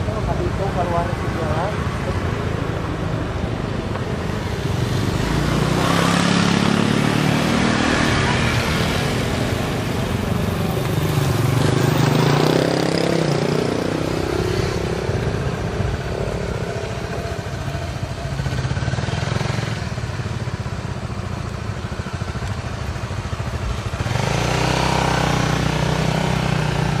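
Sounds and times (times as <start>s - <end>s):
motorcycle passing: 0.0s - 27.0s
motorcycle engine at low revs: 2.0s - 27.0s.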